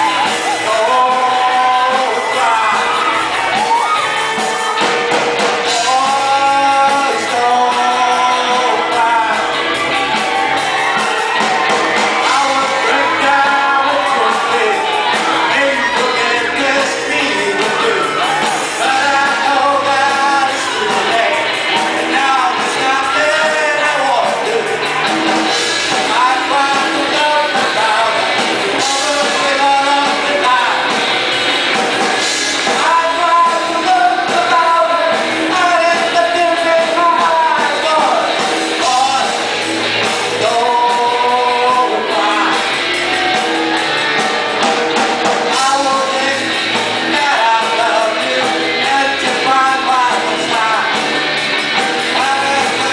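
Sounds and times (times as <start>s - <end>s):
live rock band with singer: 0.0s - 52.9s.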